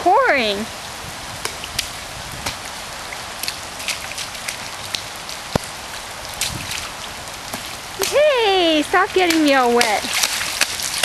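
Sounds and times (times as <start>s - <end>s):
heavy rain hissing: 0.0s - 11.0s
raindrops ticking close by: 0.0s - 11.0s.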